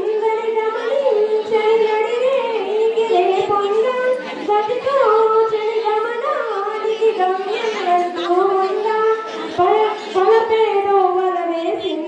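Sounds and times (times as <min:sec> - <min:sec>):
woman singing into a microphone: 0:00.0 - 0:12.0.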